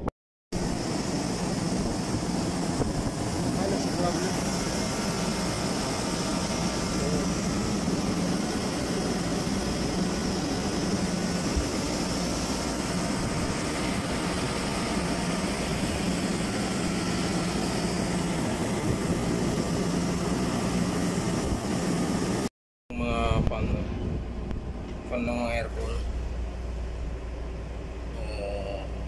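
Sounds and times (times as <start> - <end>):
air conditioner fan rushing: 0.0 - 29.0
constant low hum: 0.0 - 29.0.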